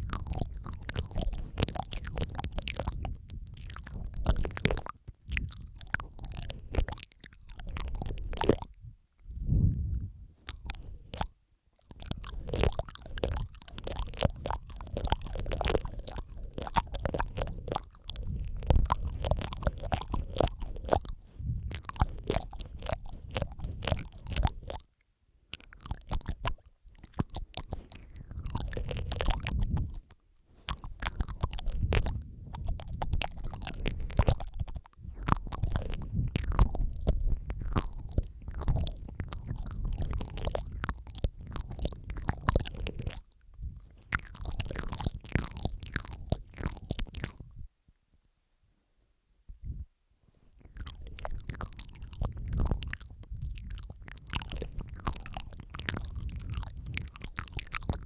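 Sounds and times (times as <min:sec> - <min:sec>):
wet mouth sounds: 0:00.0 - 0:47.7, 0:49.5 - 0:58.0.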